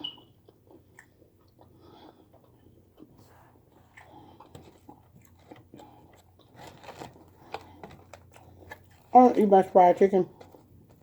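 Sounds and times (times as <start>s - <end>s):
chewing crunchy fried food: 0.1s - 11.0s.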